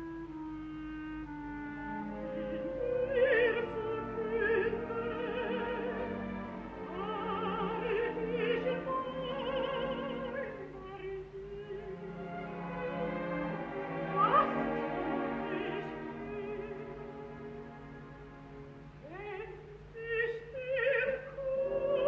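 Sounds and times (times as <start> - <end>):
orchestral accompaniment: 0.0 - 19.9
woman singing operatically: 1.7 - 17.3, 19.0 - 22.0.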